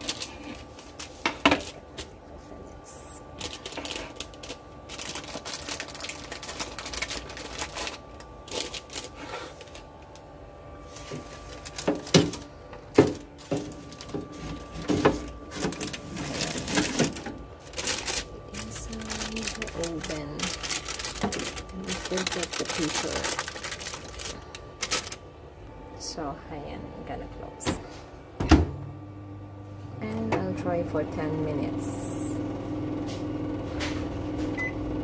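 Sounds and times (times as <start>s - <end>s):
faint oven hum: 0.0s - 35.0s.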